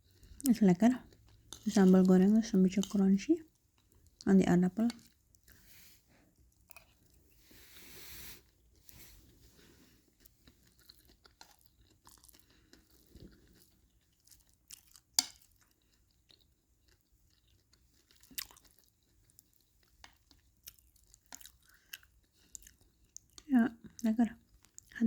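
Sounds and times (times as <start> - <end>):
person chewing crunchy food: 0.0 - 4.2, 4.9 - 24.9.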